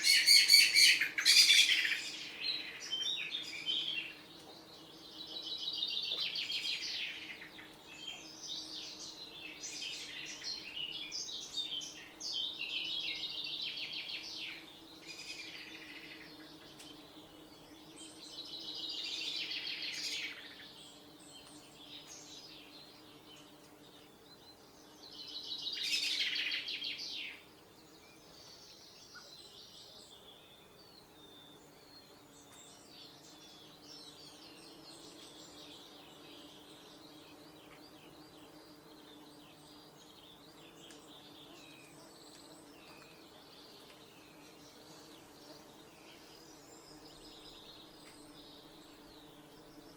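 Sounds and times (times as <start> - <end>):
songbird trilling song: 0.0 - 49.9.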